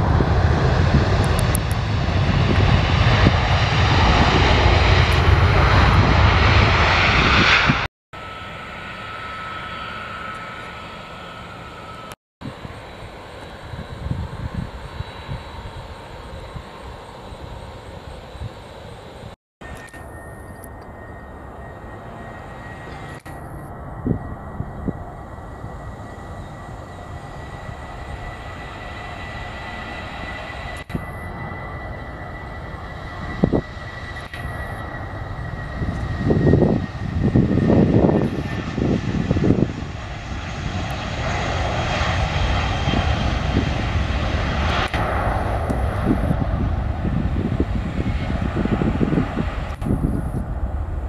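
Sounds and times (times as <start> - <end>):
low rumbling surges: 0.0 - 10.1, 10.7 - 51.0
jet engines at takeoff power: 0.0 - 51.0.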